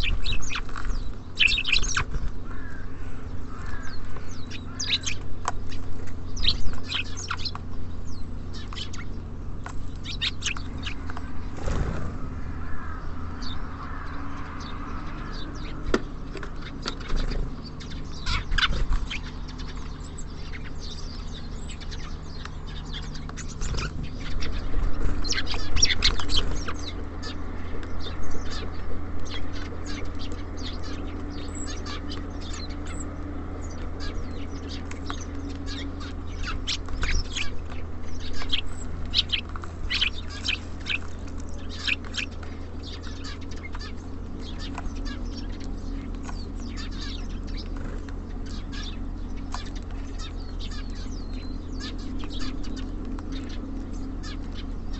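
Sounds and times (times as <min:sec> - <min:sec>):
small birds chirping: 0:00.0 - 0:54.9
birds tapping at feeder: 0:03.5 - 0:13.0, 0:15.1 - 0:54.9.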